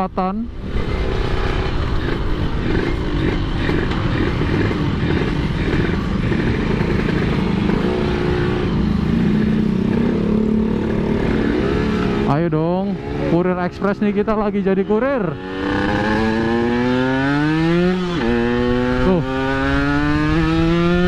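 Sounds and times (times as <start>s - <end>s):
two-stroke motorcycle engine running: 1.1s - 21.0s.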